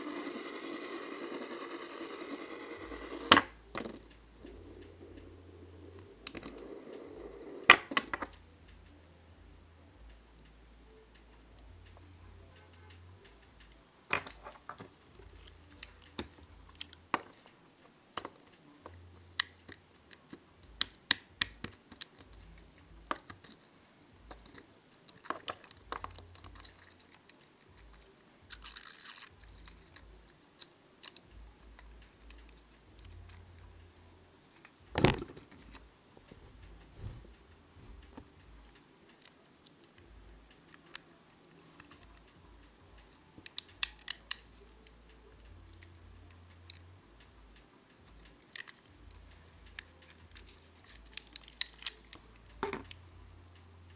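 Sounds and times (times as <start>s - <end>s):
small objects clicking and tapping: 10.1s - 53.9s.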